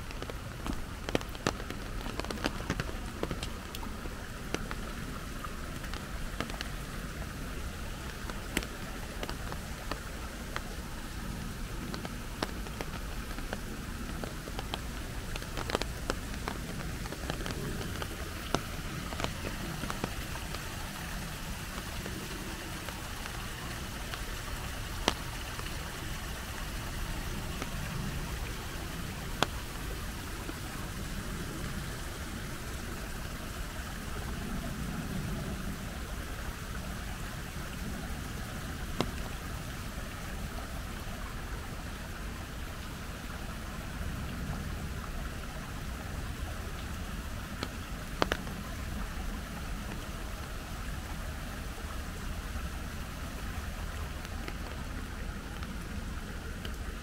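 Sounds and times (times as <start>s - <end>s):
raindrops ticking: 0.0s - 57.0s
steady rain: 0.0s - 57.0s.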